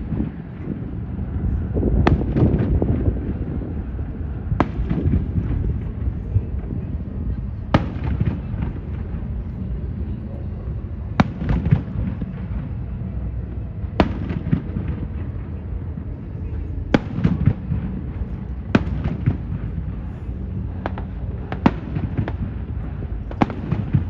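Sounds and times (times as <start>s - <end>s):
fireworks bangs with echoes: 0.0s - 9.6s, 11.0s - 24.0s
low background noise: 0.0s - 24.0s.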